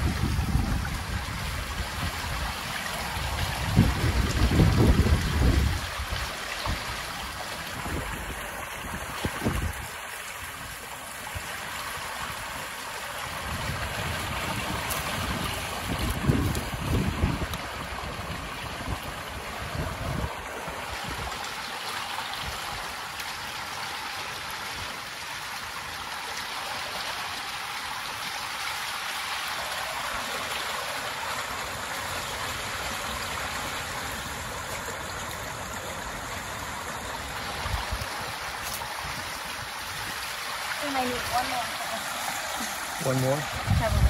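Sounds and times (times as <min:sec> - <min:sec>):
stream water running: 0:00.0 - 0:44.0.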